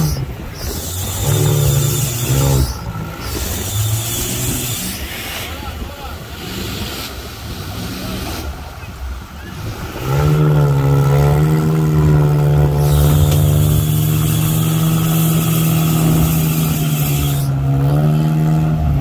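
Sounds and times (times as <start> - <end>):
engine revving at high revs: 0.0 - 5.6, 6.3 - 8.6, 9.5 - 19.0.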